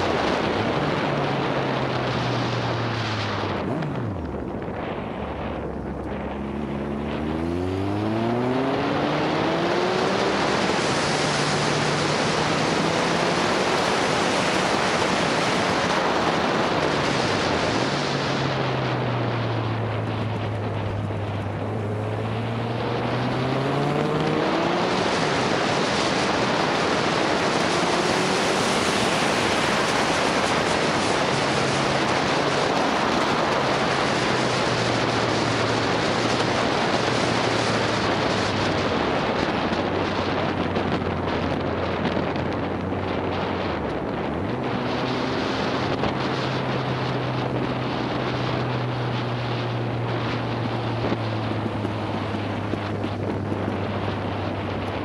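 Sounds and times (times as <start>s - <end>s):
motorcycle engine: 0.0s - 55.0s
wind rushing over microphone: 0.0s - 55.0s.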